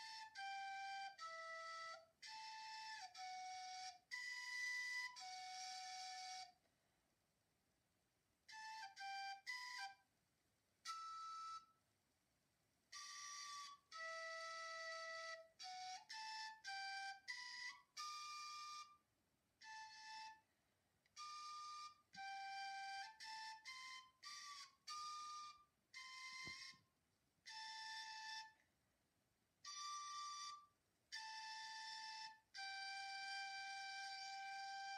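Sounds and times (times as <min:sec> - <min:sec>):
slow flute-like melody: 0:00.0 - 0:06.7, 0:08.4 - 0:10.1, 0:10.8 - 0:11.8, 0:12.9 - 0:19.0, 0:19.6 - 0:28.7, 0:29.6 - 0:34.9.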